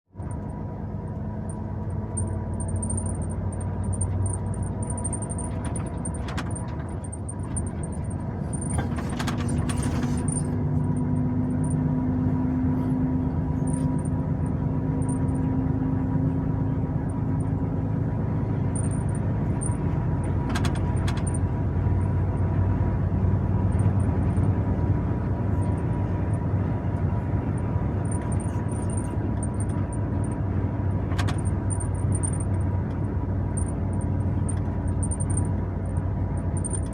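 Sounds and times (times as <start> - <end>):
truck engine running: 0.1 - 36.9.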